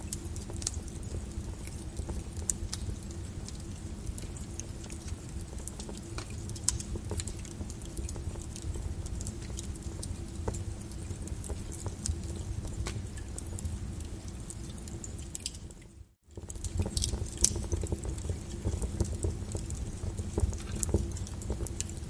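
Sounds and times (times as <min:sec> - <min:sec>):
rain pattering: 0:00.0 - 0:22.0
wood fire crackling: 0:00.0 - 0:22.0.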